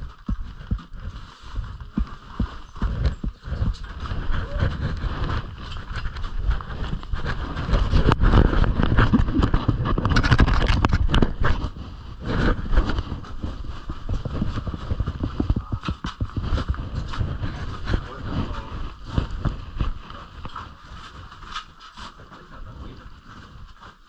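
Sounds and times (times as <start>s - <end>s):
steady low rumble: 0.0s - 21.6s.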